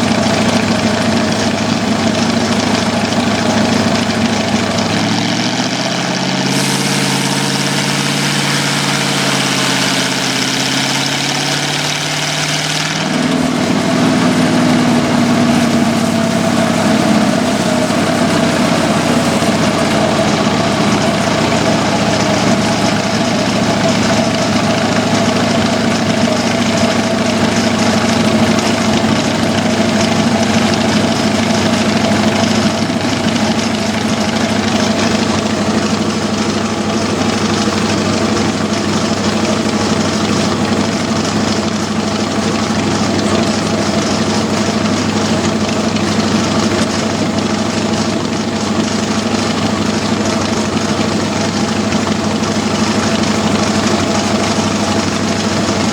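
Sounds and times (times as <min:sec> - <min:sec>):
engine running steadily: 0:00.0 - 0:55.9.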